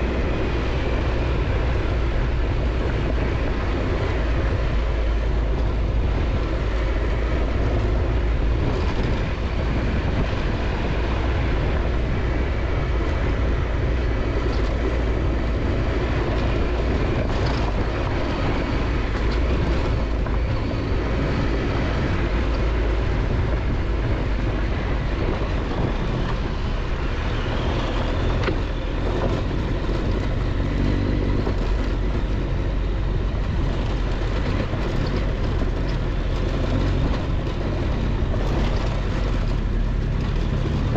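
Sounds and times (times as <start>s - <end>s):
motorcycle engine running: 0.0s - 40.9s
wind rumble on microphone: 0.0s - 40.9s.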